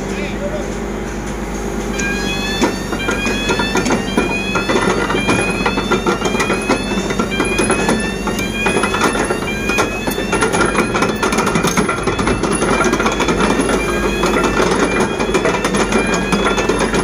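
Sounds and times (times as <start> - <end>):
crane tracks clanking and squeaking: 0.0 - 17.0
diesel engine running: 0.0 - 17.0.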